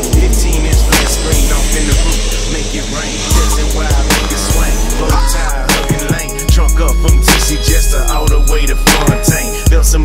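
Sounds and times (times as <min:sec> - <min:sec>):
hip-hop music with heavy bass: 0:00.0 - 0:10.0.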